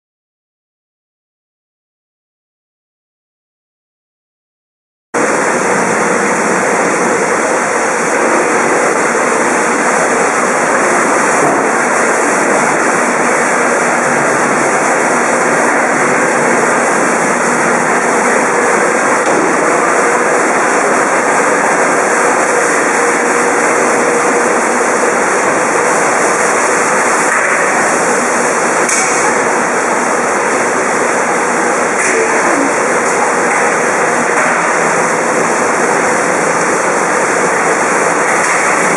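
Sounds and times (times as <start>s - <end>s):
churning water rushing: 5.2s - 38.9s.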